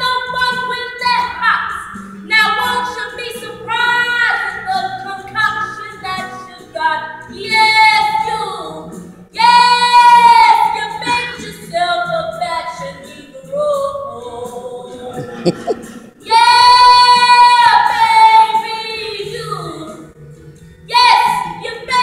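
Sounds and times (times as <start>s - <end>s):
young woman singing: 0.0s - 15.2s, 16.2s - 20.1s, 20.9s - 22.0s.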